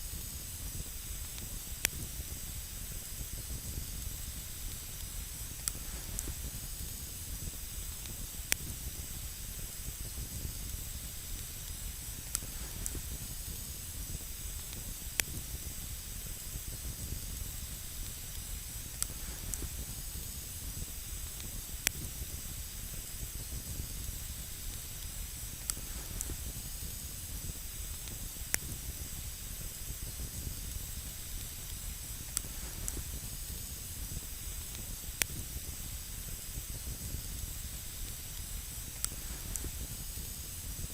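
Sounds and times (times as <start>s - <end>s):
campfire hissing: 0.0s - 40.9s
fire crackles: 0.0s - 40.9s.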